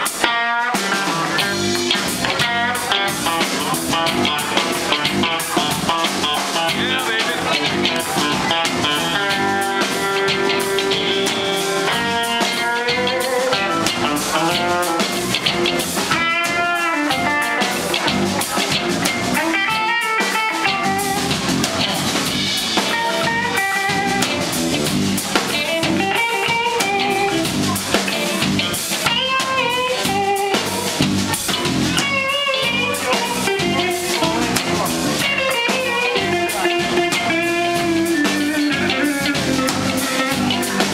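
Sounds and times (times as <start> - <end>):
blues band playing: 0.0 - 40.9
electric guitar bent notes: 0.0 - 40.9.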